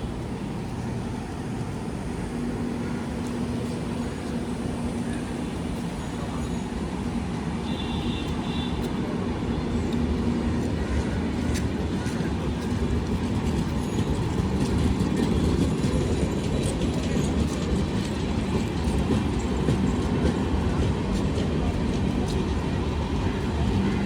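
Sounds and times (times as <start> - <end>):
train rumbling on tracks: 0.0 - 24.0.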